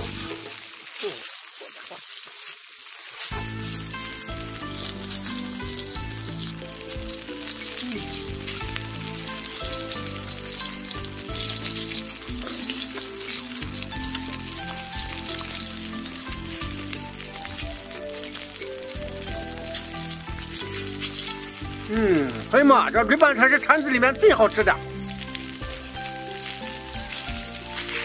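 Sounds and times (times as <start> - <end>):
background music: 0.0 - 0.7, 3.3 - 28.0
intestines sizzling on a griddle: 0.0 - 28.0.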